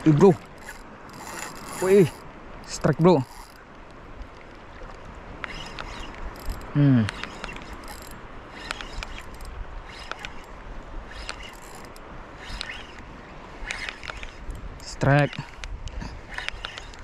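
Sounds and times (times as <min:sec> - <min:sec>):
fishing reel clicking: 0:00.1 - 0:03.6, 0:05.4 - 0:17.0.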